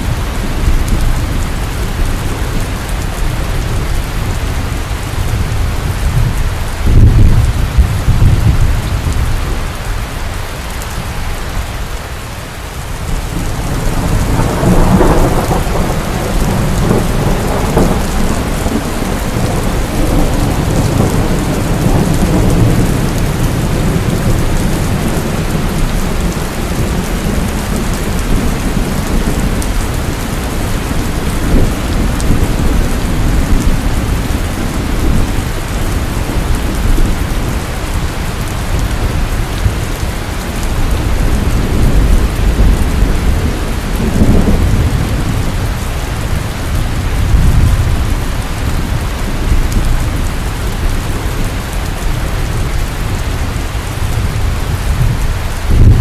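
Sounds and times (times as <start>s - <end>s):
thunder rumbling: 0.0s - 10.0s, 12.7s - 56.0s
heavy rain falling: 0.0s - 56.0s.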